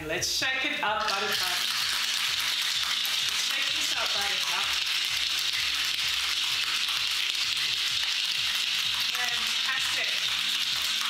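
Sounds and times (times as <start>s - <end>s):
ice rattling in cocktail shaker: 1.0s - 11.0s.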